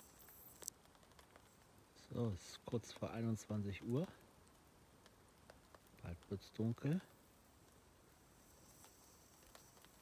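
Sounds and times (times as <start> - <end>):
faint ticks: 0.0 - 1.8, 2.4 - 10.0
faint background hiss: 0.0 - 10.0.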